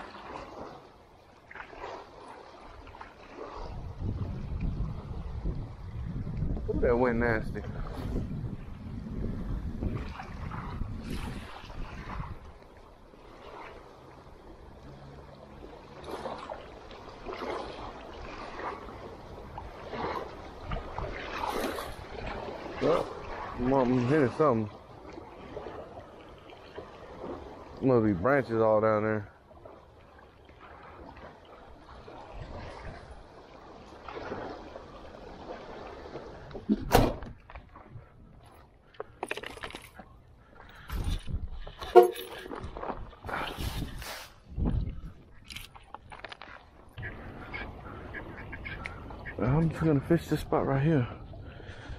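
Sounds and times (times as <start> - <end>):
lake water lapping at bank: 0.0 - 51.9.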